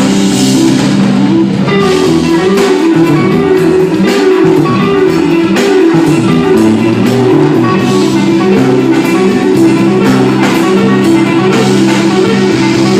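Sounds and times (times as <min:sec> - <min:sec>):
live band playing loudly: 0:00.0 - 0:12.9.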